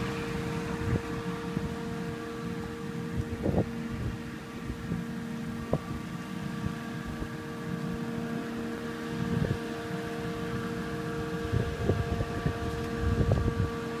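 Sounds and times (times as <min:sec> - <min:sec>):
machine hum: 0:00.0 - 0:14.0
rain and running water: 0:00.0 - 0:14.0
wind rumble on microphone: 0:00.0 - 0:14.0.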